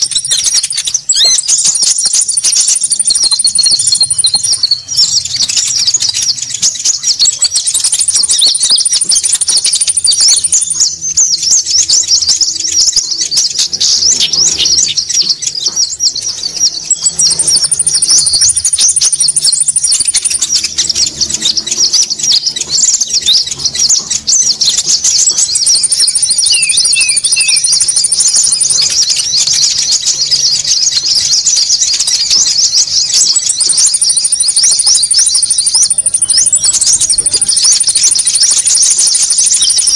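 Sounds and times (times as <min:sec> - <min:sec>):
small songbirds chattering: 0:00.0 - 0:39.9
thin high bird trill: 0:00.0 - 0:39.9.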